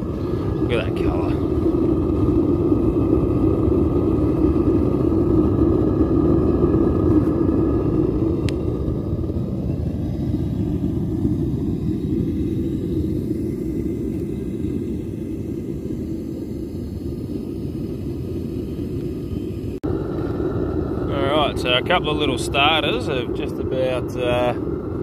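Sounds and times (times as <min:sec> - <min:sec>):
propane burner roaring: 0:00.0 - 0:25.0.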